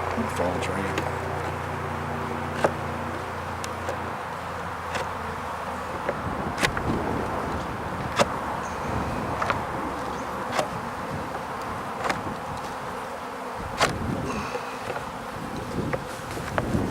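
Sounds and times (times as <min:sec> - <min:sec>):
honeybees buzzing: 0:00.0 - 0:16.9.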